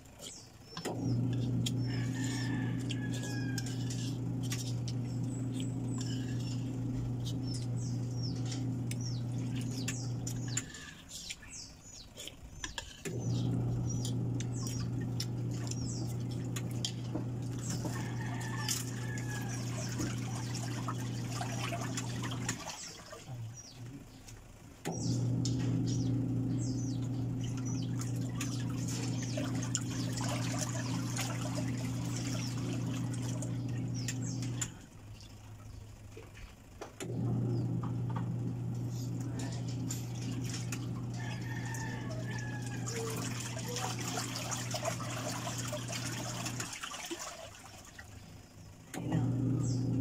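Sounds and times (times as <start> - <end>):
birds chirping: 0.0 - 50.0
steady low hum: 0.0 - 50.0.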